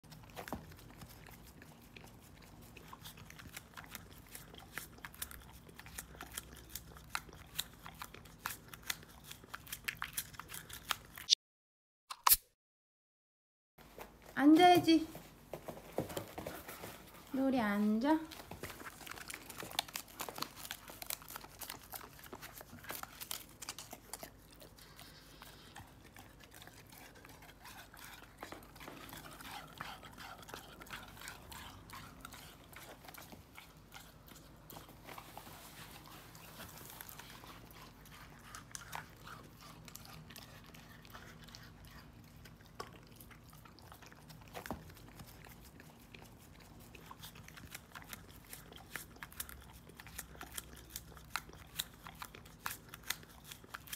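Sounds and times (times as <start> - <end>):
puppy licking: 0.0 - 11.3, 18.2 - 53.9.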